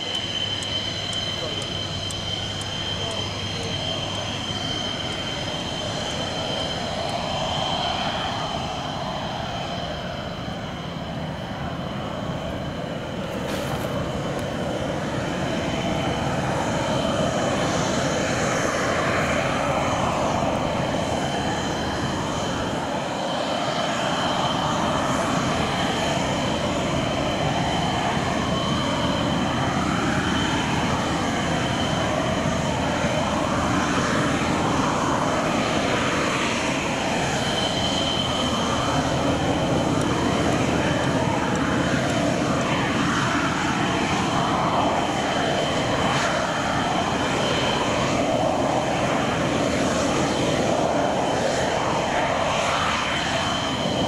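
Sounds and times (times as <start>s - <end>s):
jet engine roar with whine: 0.0s - 54.0s.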